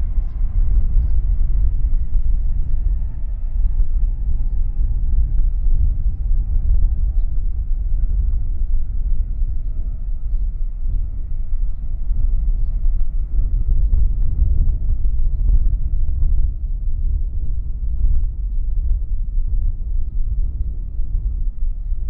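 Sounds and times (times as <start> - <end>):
faint jet engine whine: 0.0 - 22.0
jet engines rumbling: 0.0 - 22.0.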